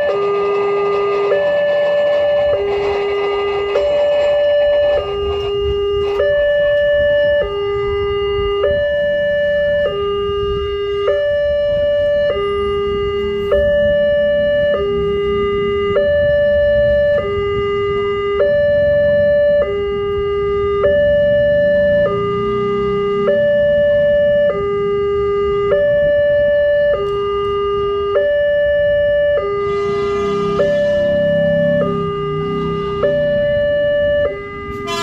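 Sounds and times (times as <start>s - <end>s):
level crossing two-tone alarm: 0.0s - 35.0s.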